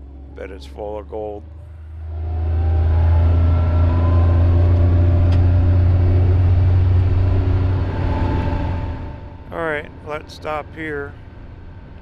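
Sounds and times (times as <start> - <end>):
vehicle engine running loud: 0.0 - 12.0.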